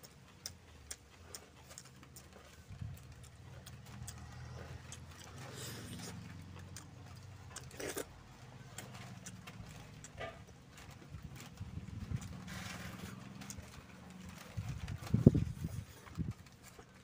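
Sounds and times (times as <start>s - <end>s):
wet mouth clicks and chewing: 0.0s - 17.0s.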